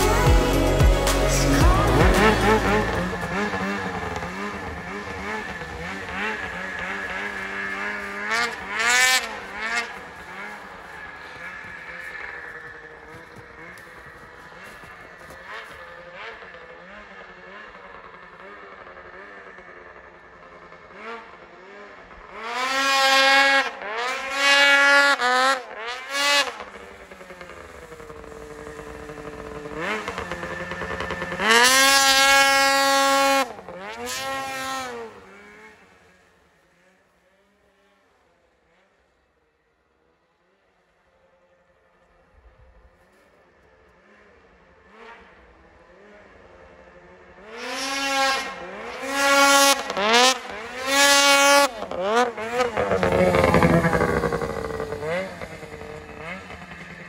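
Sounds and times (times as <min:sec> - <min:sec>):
snowmobile engine revving: 0:00.0 - 0:37.6, 0:43.8 - 0:57.0.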